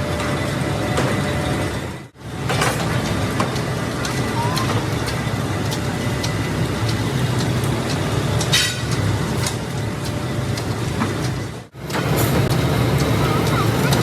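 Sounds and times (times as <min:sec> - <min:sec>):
low machinery hum: 0:00.0 - 0:14.0
sharp metallic clicks and knocks: 0:02.4 - 0:14.0.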